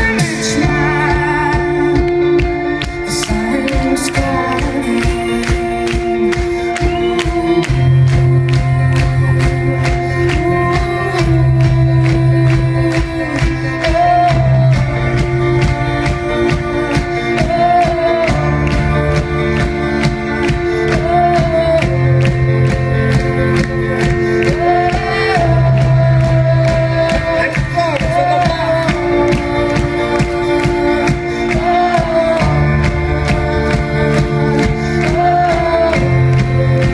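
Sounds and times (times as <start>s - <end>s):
bass notes: 0.0s - 36.9s
drum kit beat: 0.0s - 36.9s
keyboard chords: 0.0s - 36.9s
person singing: 0.0s - 36.9s.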